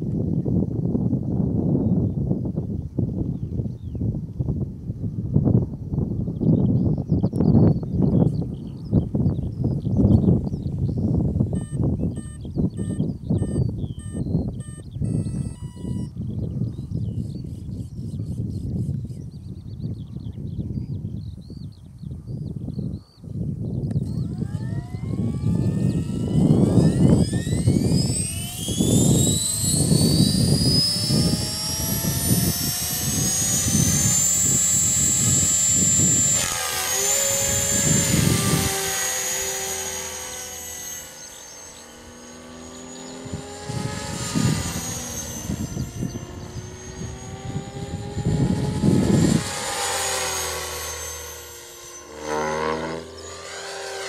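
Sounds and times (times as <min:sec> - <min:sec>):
wind rumbling on microphone: 0:00.0 - 0:54.0
rc helicopter motor whine: 0:05.3 - 0:21.0, 0:21.7 - 0:54.0.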